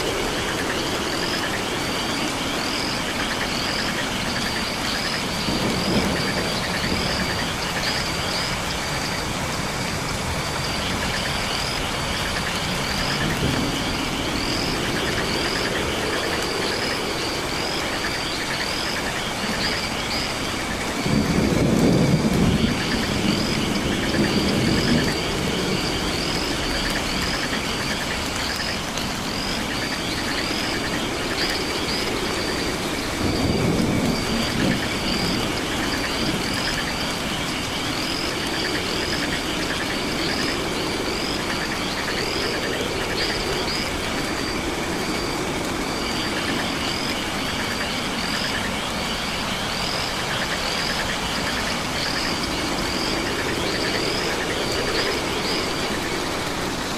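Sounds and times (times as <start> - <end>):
trilling frogs and insects: 0.0 - 56.9.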